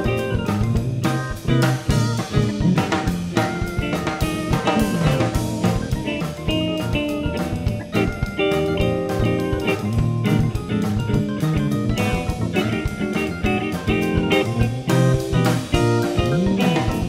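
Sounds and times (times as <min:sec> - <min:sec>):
guitar: 0:00.0 - 0:17.0
steady drum beat: 0:00.0 - 0:17.0
upbeat band music: 0:00.0 - 0:17.0.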